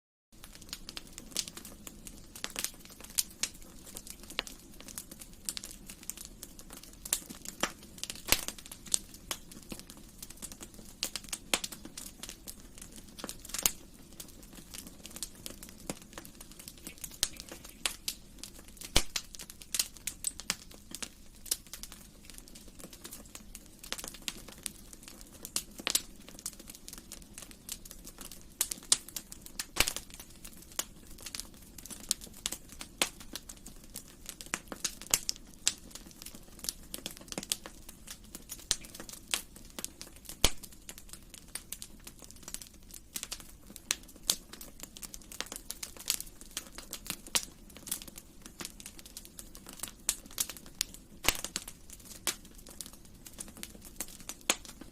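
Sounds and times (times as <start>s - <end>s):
wood fire crackling: 0.4s - 54.9s.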